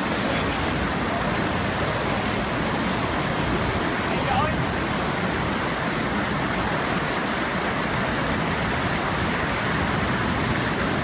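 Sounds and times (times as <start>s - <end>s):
water rushing through channel: 0.0s - 11.0s.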